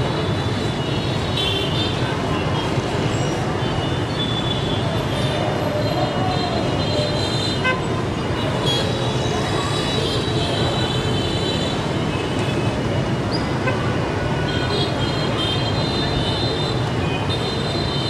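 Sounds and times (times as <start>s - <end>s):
hum of vehicles: 0.0s - 18.0s.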